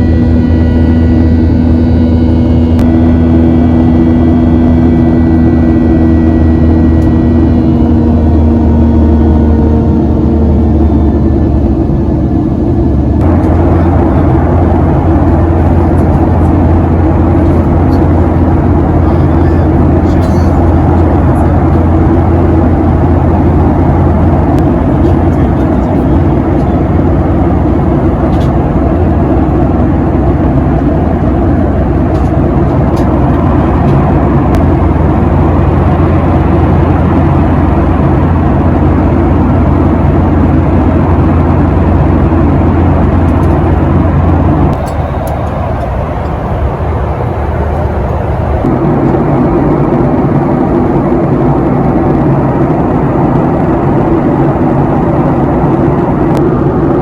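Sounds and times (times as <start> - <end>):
moving vehicle drone: 0.0 - 57.0.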